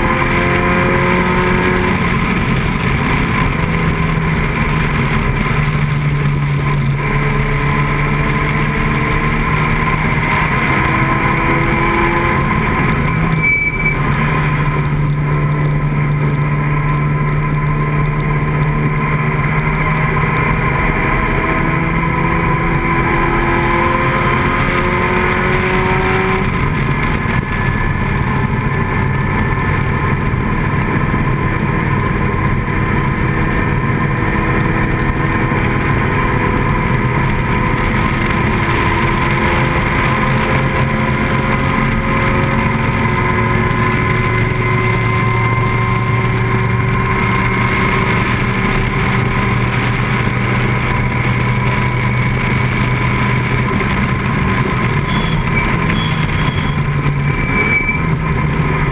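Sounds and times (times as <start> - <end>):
racing car engine running hard: 0.0 - 58.9.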